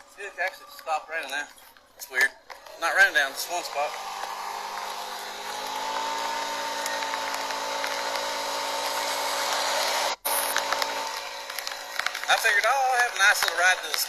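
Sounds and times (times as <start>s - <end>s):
small vehicle engine whining: 0.0s - 14.0s.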